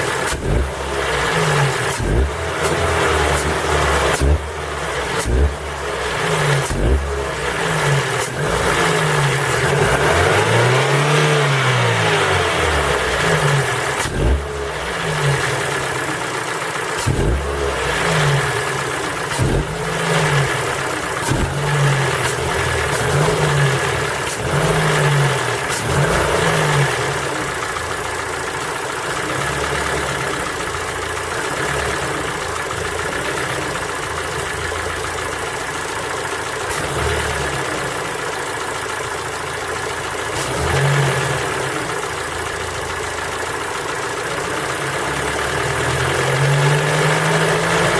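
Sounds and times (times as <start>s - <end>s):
car engine idling: 0.0s - 47.9s
car engine revving: 0.0s - 47.9s.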